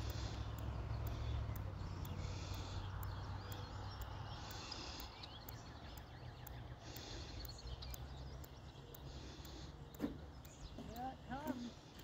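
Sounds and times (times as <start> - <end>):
songbird singing buzzy phrases: 0.0 - 12.0.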